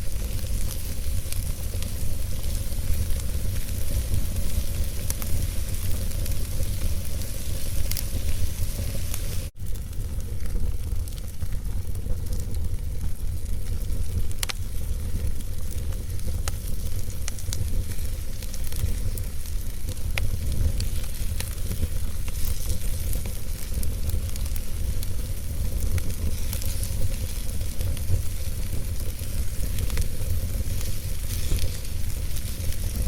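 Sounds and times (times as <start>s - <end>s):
fire rumbling and hissing: 0.0s - 33.0s
wood crackling and popping: 0.0s - 33.0s.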